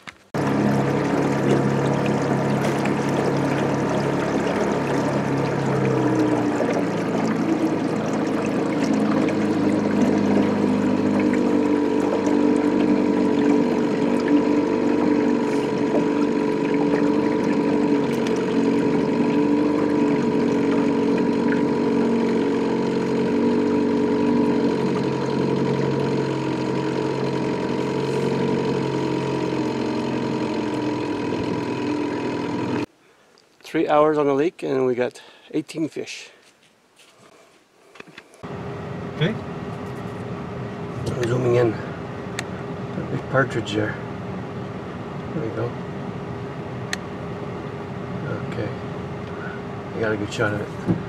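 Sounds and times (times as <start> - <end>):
outboard motor running: 0.0 - 33.0, 38.0 - 51.0
water along boat hull: 0.0 - 51.0.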